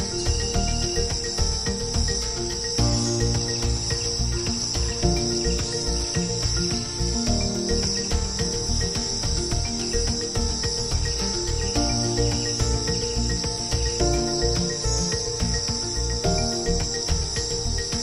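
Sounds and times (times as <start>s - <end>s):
insect chorus chirring: 0.0s - 18.0s
music of held notes: 0.0s - 18.0s.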